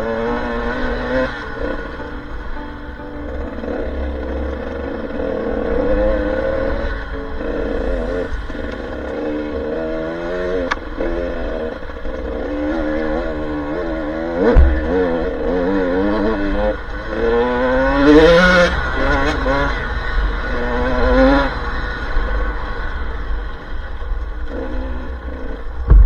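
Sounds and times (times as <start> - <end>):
dirt bike engine revving: 0.0 - 2.1, 3.4 - 22.3.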